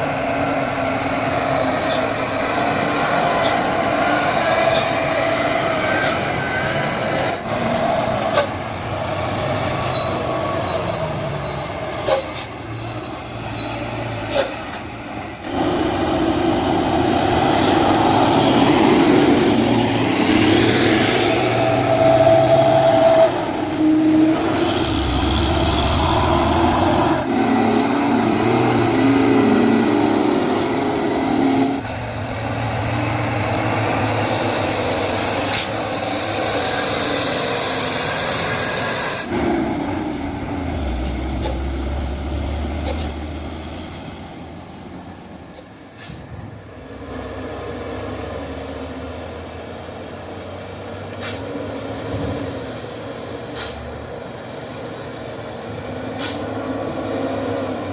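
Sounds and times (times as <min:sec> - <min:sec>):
truck diesel engines roaring: 0:00.0 - 0:57.9.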